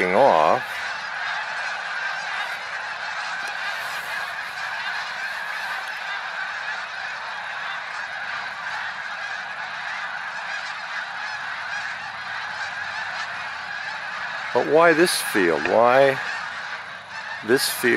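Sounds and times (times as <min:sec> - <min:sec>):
flock of birds calling: 0:00.0 - 0:17.9.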